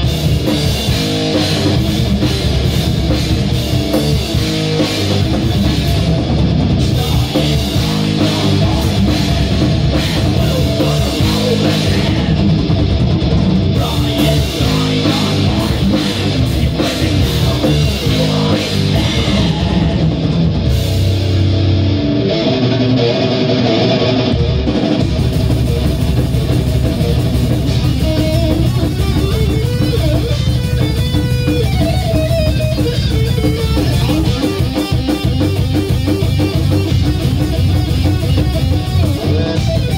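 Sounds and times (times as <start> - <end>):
bass guitar: 0.0 - 39.9
drum kit: 0.0 - 39.9
electric guitar: 0.0 - 39.9
guitar melody line: 0.0 - 39.9.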